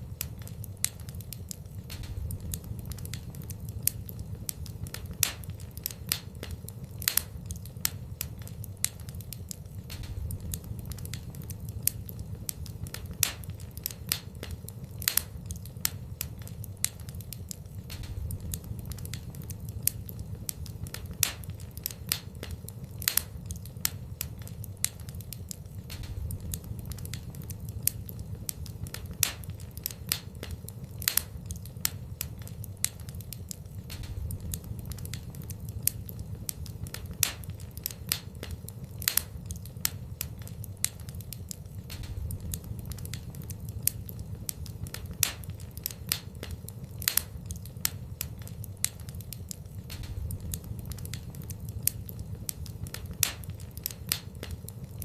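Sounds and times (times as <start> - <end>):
fire crackling and popping: 0.0 - 55.0
loud fire snaps: 0.0 - 55.0
low rumble of flames: 0.0 - 55.0.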